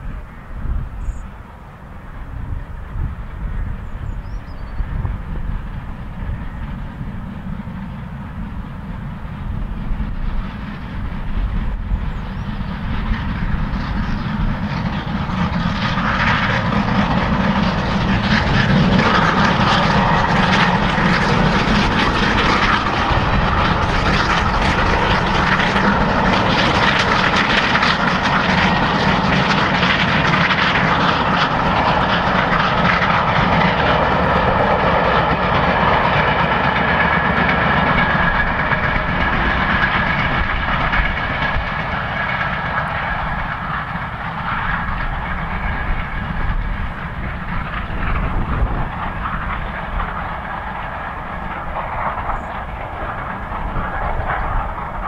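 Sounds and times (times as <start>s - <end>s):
steam train running past: 0.0s - 55.0s.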